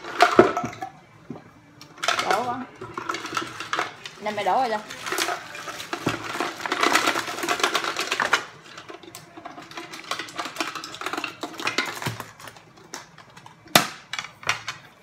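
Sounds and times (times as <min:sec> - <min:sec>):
kitchen gadget clicking and rattling: 0:01.8 - 0:14.8.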